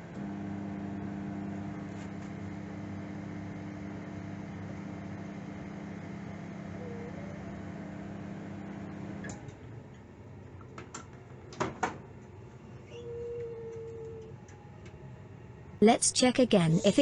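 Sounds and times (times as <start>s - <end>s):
microwave oven humming: 0.0s - 15.8s.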